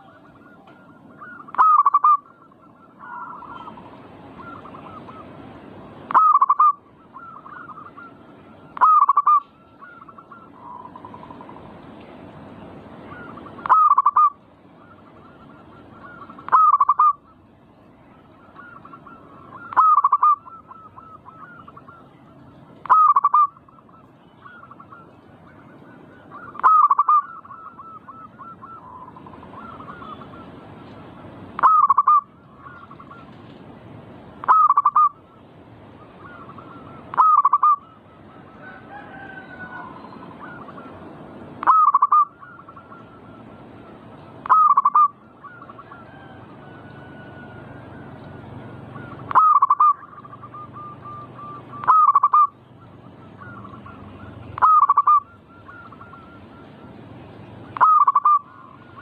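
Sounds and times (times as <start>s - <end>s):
dove cooing: 0.0s - 5.4s, 6.0s - 11.7s, 13.0s - 17.5s, 18.1s - 33.6s, 34.4s - 35.4s, 36.0s - 59.0s.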